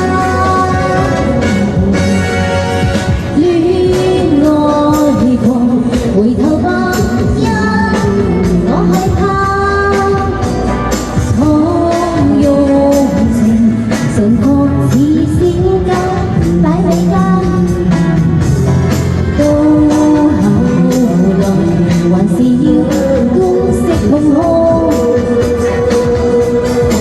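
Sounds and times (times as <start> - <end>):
backing track with steady beat: 0.0 - 27.0
woman singing pop song: 0.0 - 27.0.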